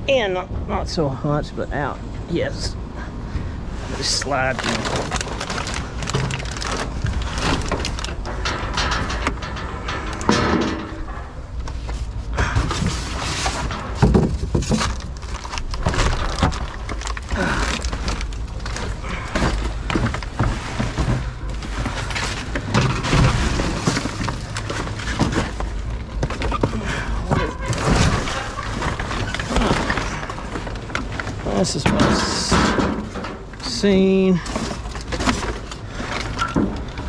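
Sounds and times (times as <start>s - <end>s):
debris knocking in metal dumpster: 4.3s - 11.6s, 12.3s - 37.0s.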